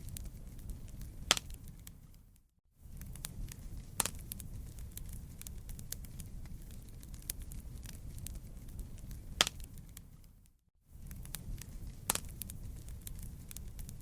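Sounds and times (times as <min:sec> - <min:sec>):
campfire flame rushing: 0:00.0 - 0:02.1, 0:02.8 - 0:10.3, 0:10.9 - 0:14.0
fire crackling and popping: 0:00.0 - 0:14.0.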